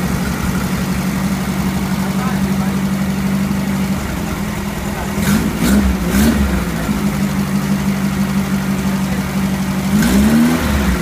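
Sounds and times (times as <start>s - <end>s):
engine idling with throttle blips: 0.0s - 11.0s.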